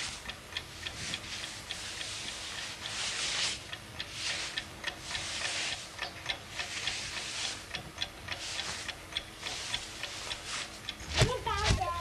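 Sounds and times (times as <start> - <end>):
alarm clock ticking: 0.0 - 12.0.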